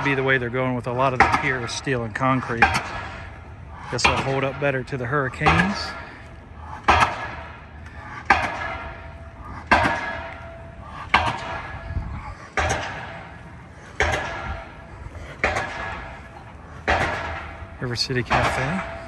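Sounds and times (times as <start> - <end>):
pile driver striking steel pile: 0.0 - 6.2, 6.8 - 7.6, 8.2 - 19.0.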